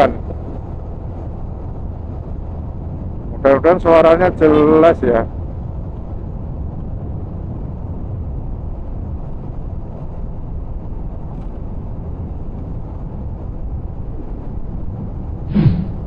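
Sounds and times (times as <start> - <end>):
motorcycle engine rumble: 0.0 - 16.0
wind noise on microphone: 0.0 - 16.0.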